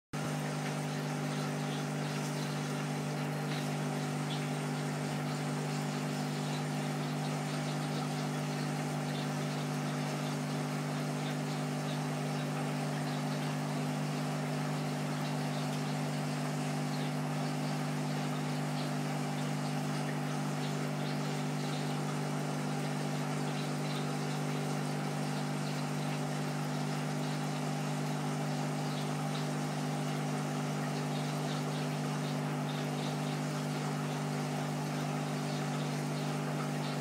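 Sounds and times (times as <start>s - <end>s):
air pump humming: 0.2s - 37.0s.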